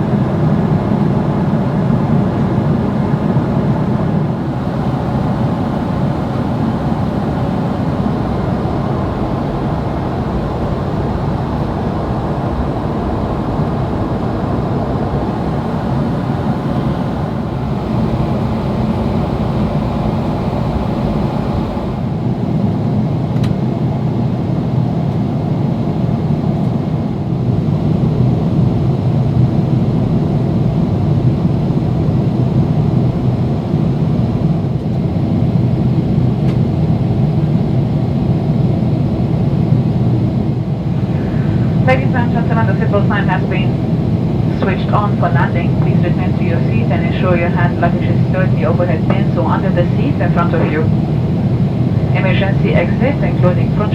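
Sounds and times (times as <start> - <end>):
airflow rush in aircraft cabin: 0.0 - 53.9
jet engine rumble: 0.0 - 53.9.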